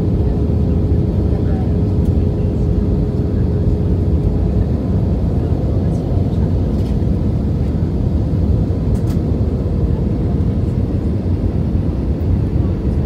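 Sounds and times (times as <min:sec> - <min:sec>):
airliner engines rumbling: 0:00.0 - 0:13.0.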